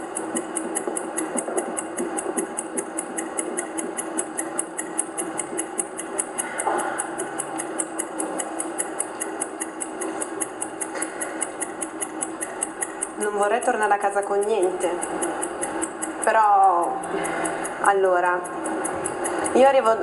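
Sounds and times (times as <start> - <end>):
fast even ticking: 0.0 - 20.0.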